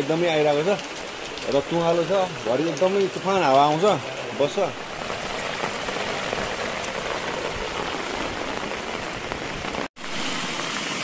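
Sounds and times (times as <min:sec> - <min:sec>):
heavy rain falling: 0:00.0 - 0:11.0
water rushing over stones: 0:00.0 - 0:11.0.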